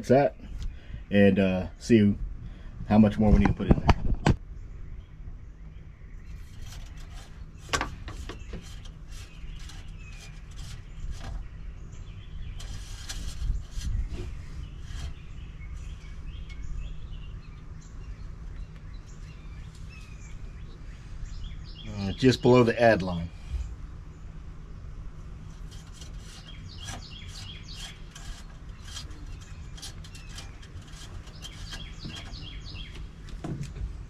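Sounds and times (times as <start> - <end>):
birds chirping: 0.0 - 34.0
steady low rumble: 0.0 - 34.0.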